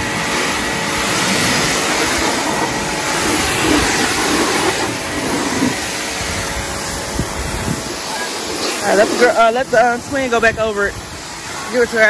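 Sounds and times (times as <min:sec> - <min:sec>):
electric pressure washer spraying: 0:00.0 - 0:12.0.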